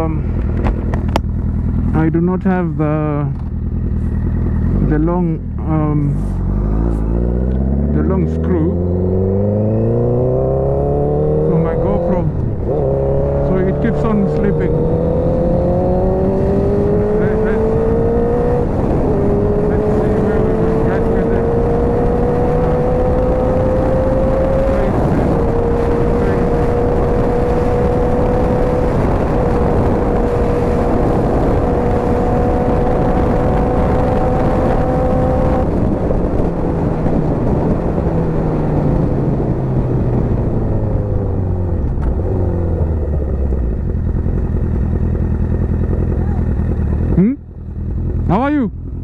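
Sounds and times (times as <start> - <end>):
heavy wind rush: 0.0 - 49.0
motorcycle engine revving: 0.0 - 49.0.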